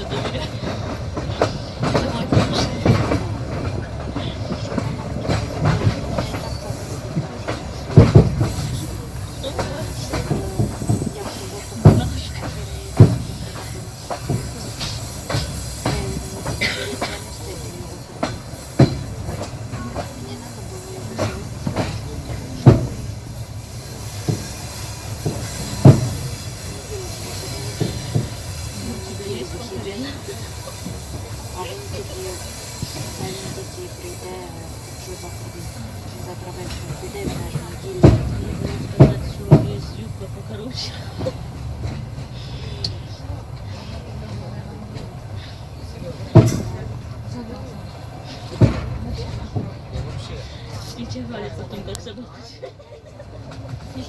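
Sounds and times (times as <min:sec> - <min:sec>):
train running rumble: 0:00.0 - 0:54.0
train wheels clattering over rails: 0:00.0 - 0:54.0.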